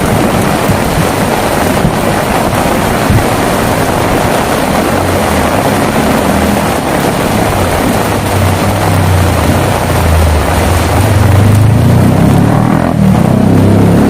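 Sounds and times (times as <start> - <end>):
heavy rain pouring: 0.0 - 14.0
low rumble: 0.0 - 14.0.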